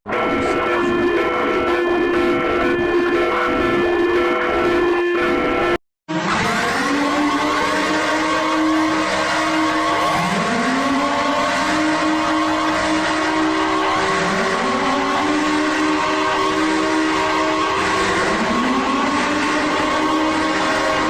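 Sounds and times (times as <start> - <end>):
low siren-like tone: 0.1 - 21.0
steady electronic tones: 0.1 - 21.0.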